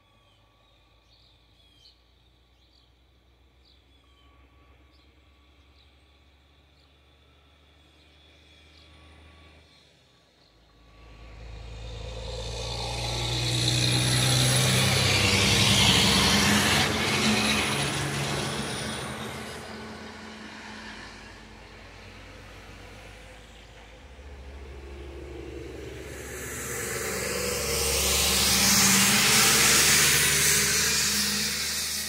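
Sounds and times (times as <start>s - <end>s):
dump truck driving past: 4.4s - 32.0s.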